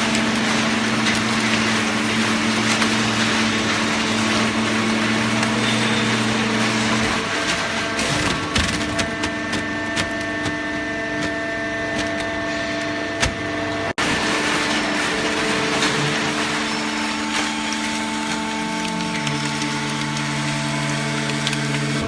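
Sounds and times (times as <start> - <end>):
baler machine humming: 0.0 - 22.0.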